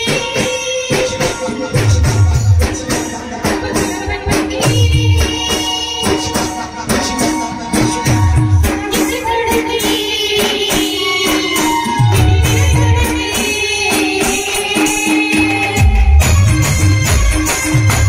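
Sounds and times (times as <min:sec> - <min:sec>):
live band music: 0:00.0 - 0:18.0
percussion beat: 0:00.0 - 0:18.0.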